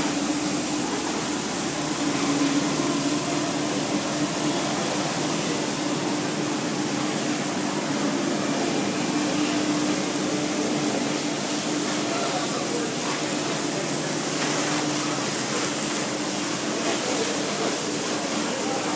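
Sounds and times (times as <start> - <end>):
steel slitting machine humming: 0.0 - 18.9.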